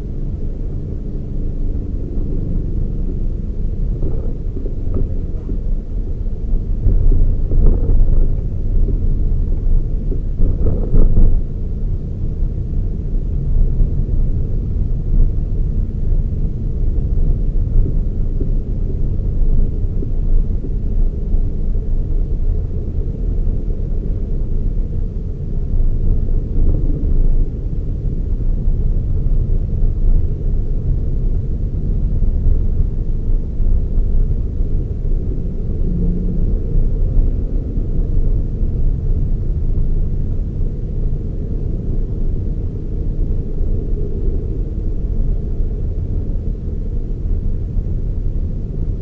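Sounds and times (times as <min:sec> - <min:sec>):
vehicle engine and road noise: 0:00.0 - 0:49.0.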